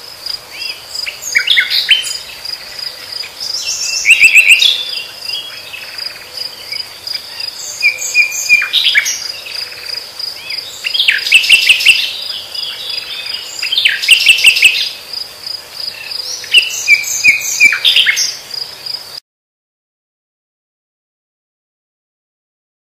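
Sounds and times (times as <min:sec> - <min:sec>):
nightingale singing: 0:00.0 - 0:19.0
high-pitched cricket trill: 0:00.0 - 0:19.2.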